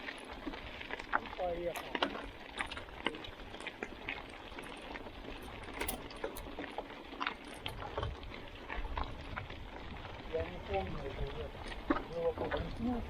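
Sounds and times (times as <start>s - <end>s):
bike clicks and rattles: 0.0s - 13.0s
bike tyres on dirt: 0.0s - 13.0s.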